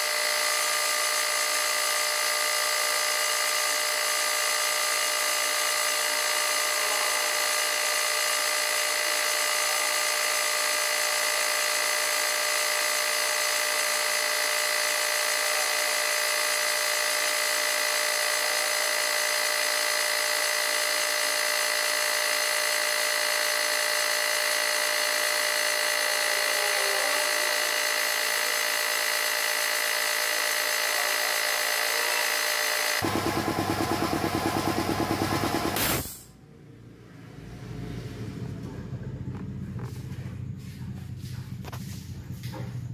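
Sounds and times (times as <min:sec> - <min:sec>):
air compressor running with whine: 0:00.0 - 0:36.4, 0:37.9 - 0:42.9.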